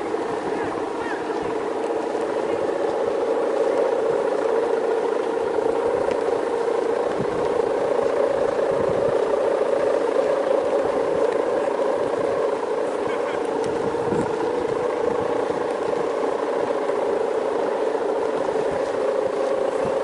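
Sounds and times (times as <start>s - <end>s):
kite hummer droning: 0.0s - 20.0s.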